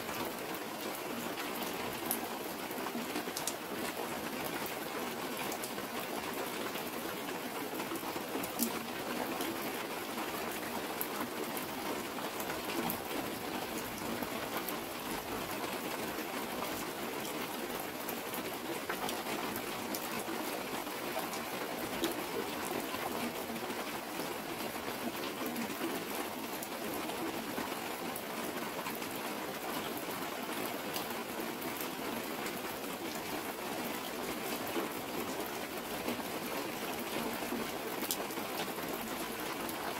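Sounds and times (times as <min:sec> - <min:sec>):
rain on a plastic sheet: 0:00.0 - 0:39.9.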